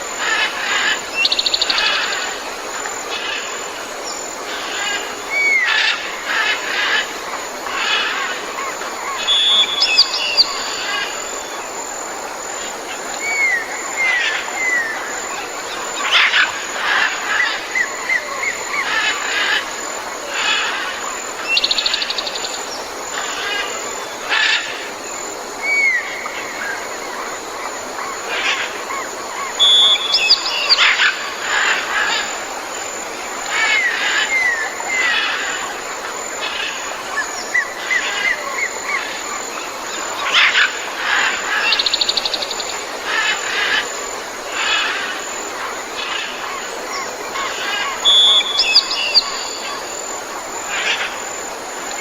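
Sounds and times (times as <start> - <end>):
steady background hiss: 0.0 - 52.0.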